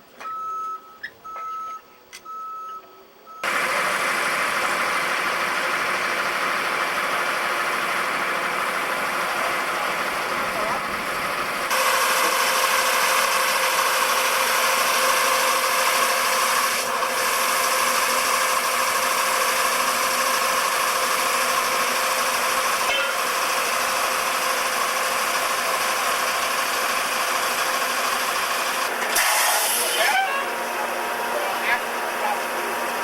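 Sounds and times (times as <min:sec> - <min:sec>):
concrete pump running: 0:03.4 - 0:33.0.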